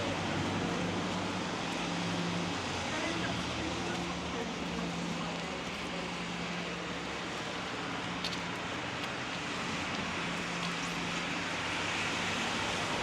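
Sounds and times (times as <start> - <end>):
rain hissing on wet street: 0.0 - 13.0.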